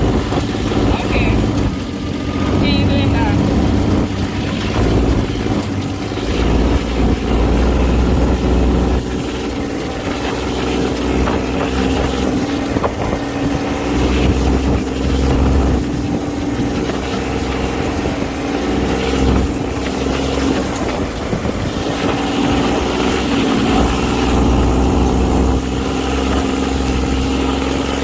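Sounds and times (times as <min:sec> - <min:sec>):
buggy engine droning: 0:00.0 - 0:28.0.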